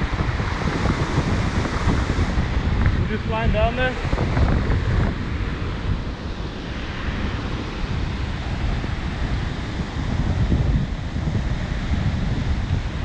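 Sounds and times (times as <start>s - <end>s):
stream rushing over rocks: 0.0s - 11.2s
wind buffeting microphone: 0.0s - 13.0s.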